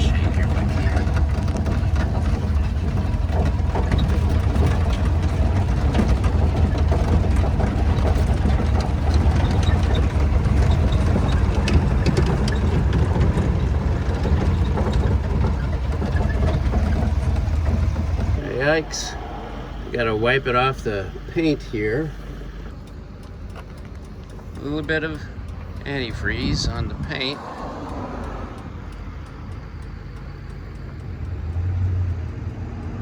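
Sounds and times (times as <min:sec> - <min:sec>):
road and wind noise: 0:00.0 - 0:33.0
truck engine rumbling: 0:00.0 - 0:33.0.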